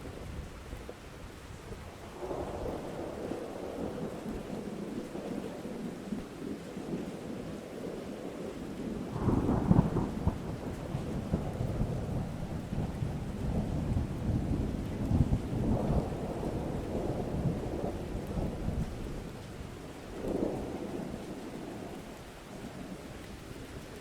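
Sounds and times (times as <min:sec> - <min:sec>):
steady rain: 0:00.0 - 0:24.0
low rolling thunder: 0:01.8 - 0:23.0.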